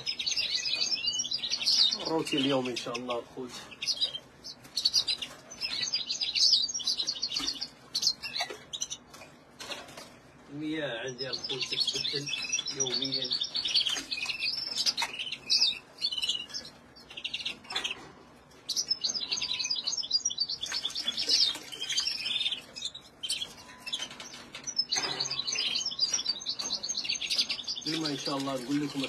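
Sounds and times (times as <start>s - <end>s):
caged birds chirping and warbling: 0.0s - 29.0s.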